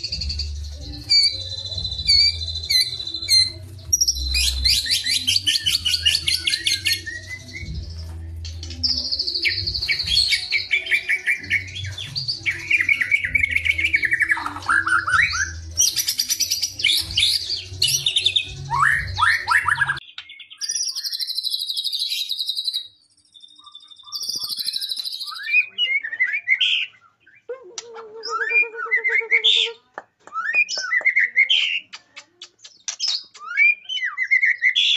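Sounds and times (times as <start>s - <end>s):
birds singing whistles and trills: 0.0s - 29.8s, 32.6s - 34.9s.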